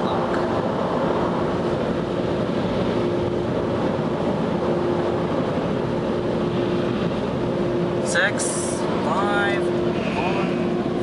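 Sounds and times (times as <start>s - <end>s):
car wash air blowers: 0.0s - 11.0s.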